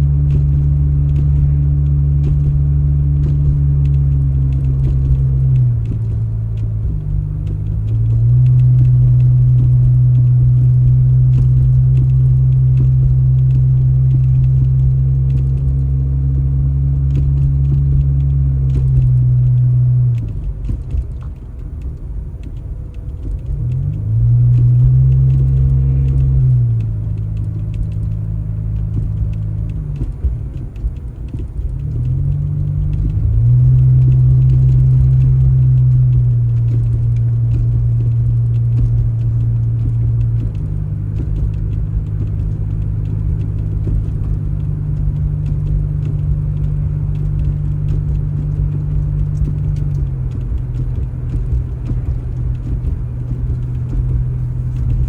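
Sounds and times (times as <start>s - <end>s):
large engine humming: 0.0s - 55.0s.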